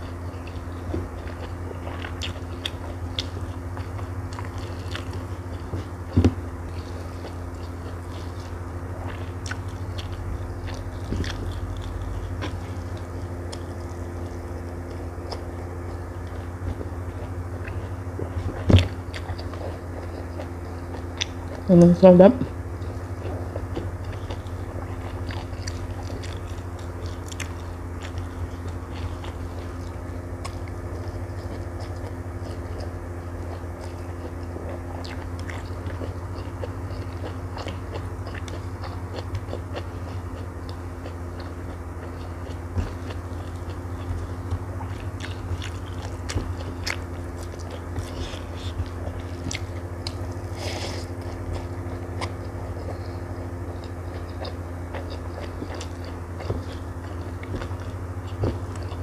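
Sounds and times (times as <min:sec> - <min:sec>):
person chewing food: 0:00.0 - 0:21.8, 0:22.4 - 0:59.0
low hum: 0:00.0 - 0:59.0.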